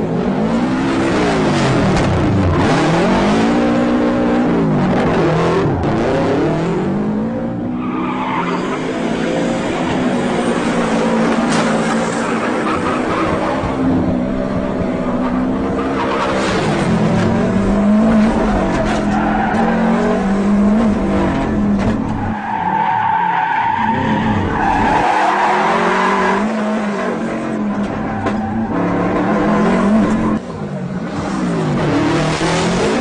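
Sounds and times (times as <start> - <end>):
car engine revving: 0.0 - 33.0
tyres skidding and squealing: 2.5 - 33.0.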